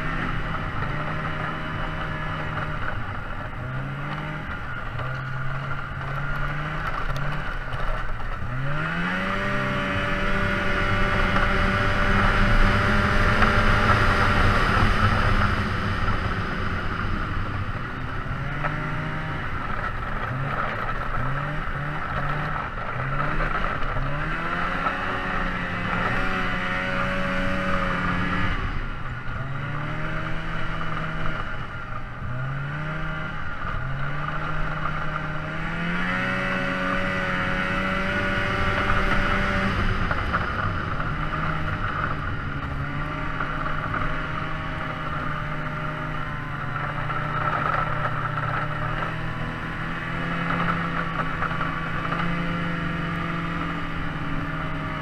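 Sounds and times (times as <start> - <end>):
road and wind noise: 0.0 - 55.0
vehicle engine revving under load: 0.0 - 55.0.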